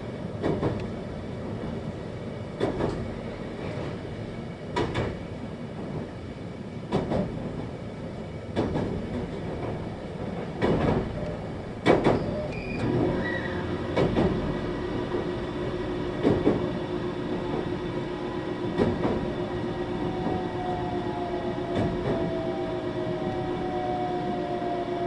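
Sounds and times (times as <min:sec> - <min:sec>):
train rolling noise: 0:00.0 - 0:25.0.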